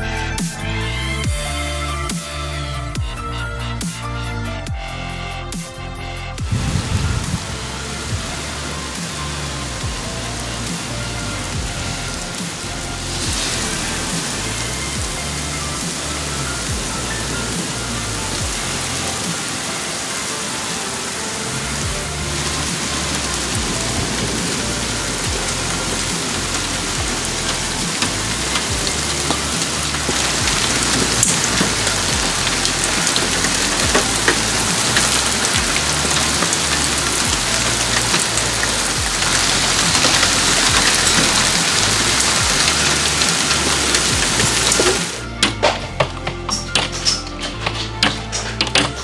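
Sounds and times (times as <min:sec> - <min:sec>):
background music with bass line: 0:00.0 - 0:49.0
heavy rain and hail: 0:06.4 - 0:49.0.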